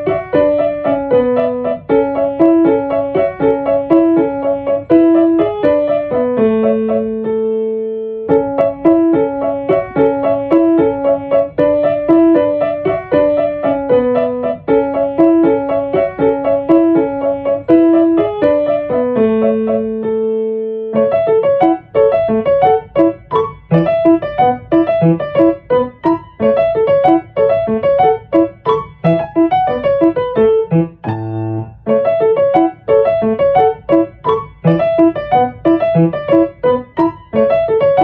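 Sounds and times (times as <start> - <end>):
solo piano melody: 0.0 - 38.0.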